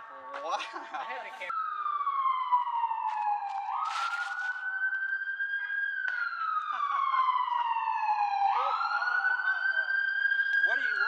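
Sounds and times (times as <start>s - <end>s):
emergency vehicle siren wailing: 0.0s - 11.0s.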